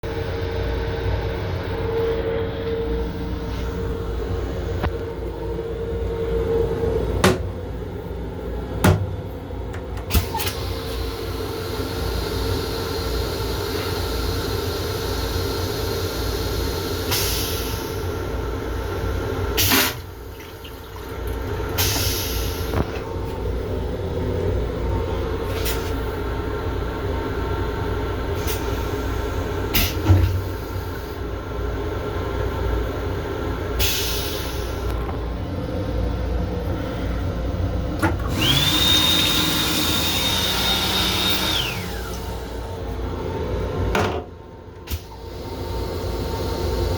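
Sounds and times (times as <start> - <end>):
train running rumble: 0.0 - 38.7.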